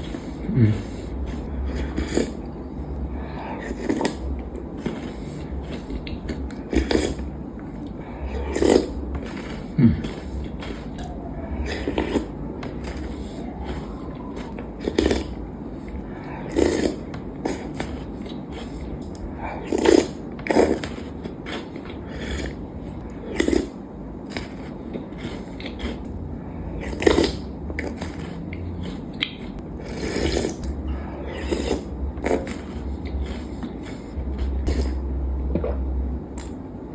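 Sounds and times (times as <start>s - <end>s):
chocolates crunching while chewed: 0.0s - 35.0s.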